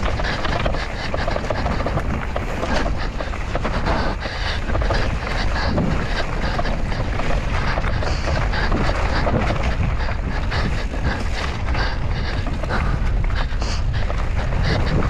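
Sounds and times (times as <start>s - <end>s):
bike rattling and knocking: 0.0s - 15.0s
bike tyre noise: 0.0s - 15.0s
wind buffeting microphone: 0.0s - 15.0s.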